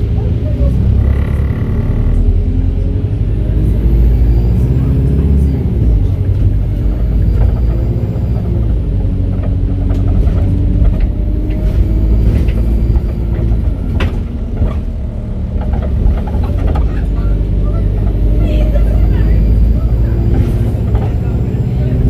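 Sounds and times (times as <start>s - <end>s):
bus engine accelerating: 0.0s - 22.0s.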